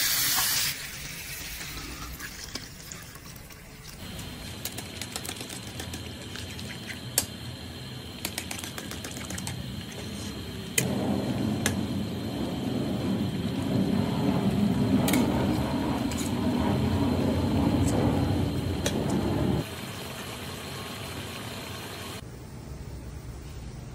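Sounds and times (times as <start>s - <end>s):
sauce simmering with rumbling hiss: 0.7s - 23.9s.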